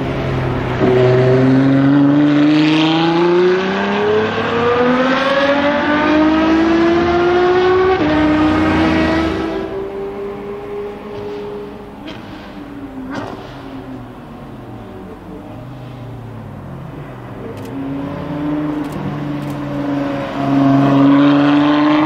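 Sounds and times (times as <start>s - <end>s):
sports car engine accelerating: 0.0s - 12.2s, 12.8s - 22.0s.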